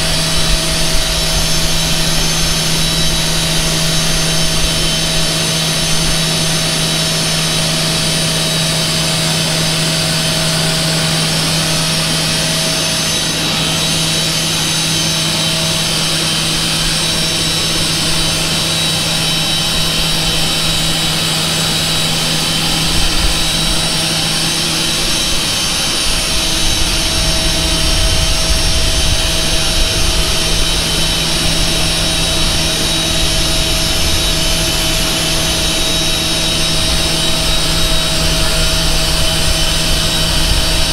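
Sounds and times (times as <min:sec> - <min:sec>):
jet turbine whine: 0:00.0 - 0:40.9.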